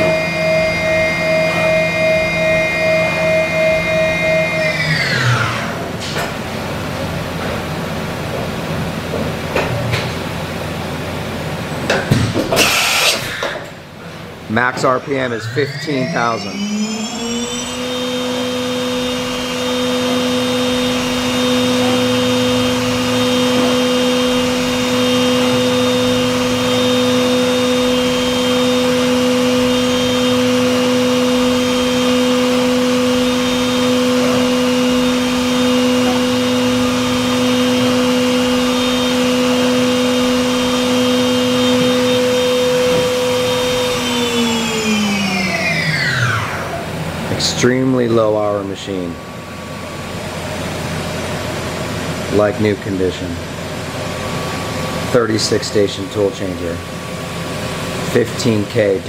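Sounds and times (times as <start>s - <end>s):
machine spindle whine: 0.0s - 8.4s, 9.9s - 59.0s.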